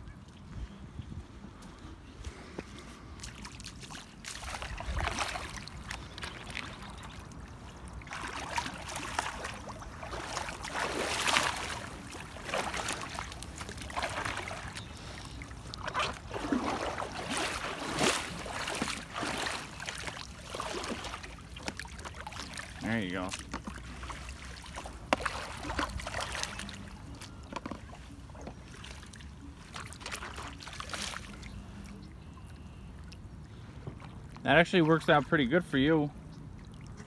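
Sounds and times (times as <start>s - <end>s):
paddle splashing in water: 2.4s - 35.7s.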